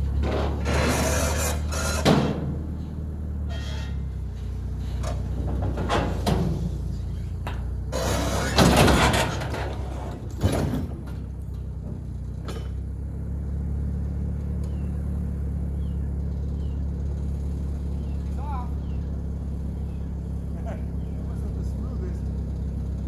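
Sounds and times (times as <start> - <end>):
engine clatter bursts: 0.0 - 23.0
vehicle engine idling: 0.0 - 23.0.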